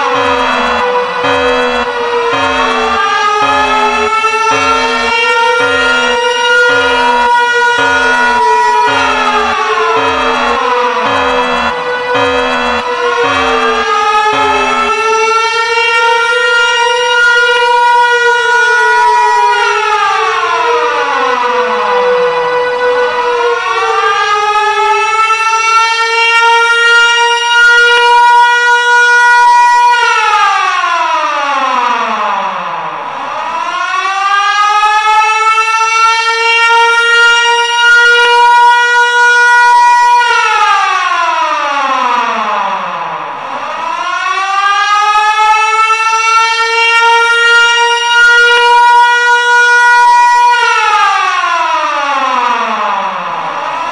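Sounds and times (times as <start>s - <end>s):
civil defense siren wailing: 0.0s - 53.9s.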